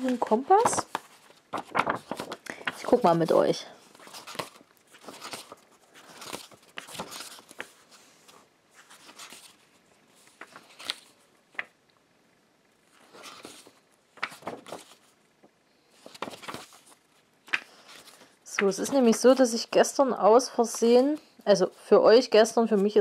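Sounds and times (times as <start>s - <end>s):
book pages rustling and flapping: 0.0s - 11.8s, 12.8s - 21.3s.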